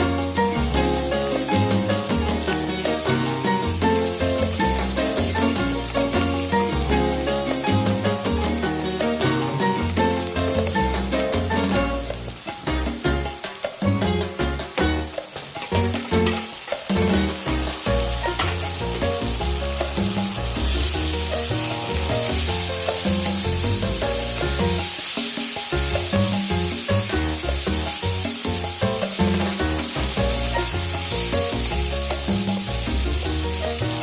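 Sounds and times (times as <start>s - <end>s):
background music: 0.0s - 34.0s
food sizzling in hot oil: 0.0s - 34.0s
stirring in a pan: 0.1s - 34.0s.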